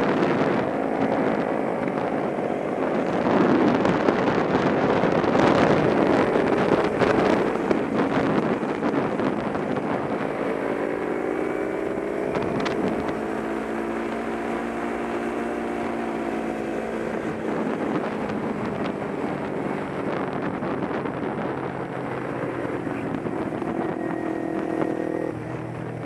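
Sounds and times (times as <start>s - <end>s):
motorcycle engine running: 0.0s - 26.0s
wind noise on microphone: 0.0s - 26.0s.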